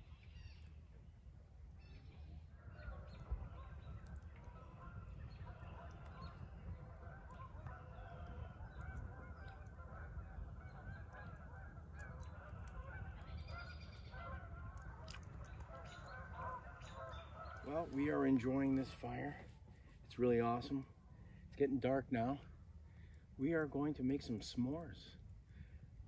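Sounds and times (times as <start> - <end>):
campfire crackling: 0.0 - 26.0
distant flock of birds calling: 0.0 - 26.0.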